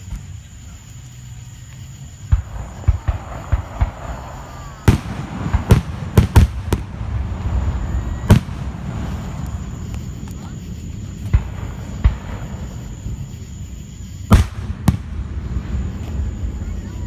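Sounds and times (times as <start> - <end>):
fireworks crackling: 0.0 - 17.0
fireworks bangs and booms: 2.3 - 17.0.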